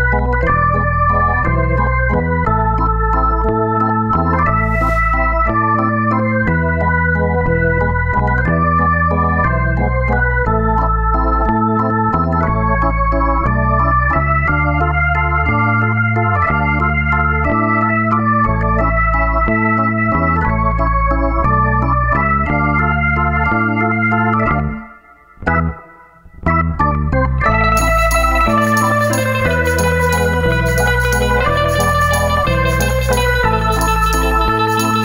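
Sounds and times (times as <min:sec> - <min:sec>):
organ-like keyboard music: 0:00.0 - 0:35.0.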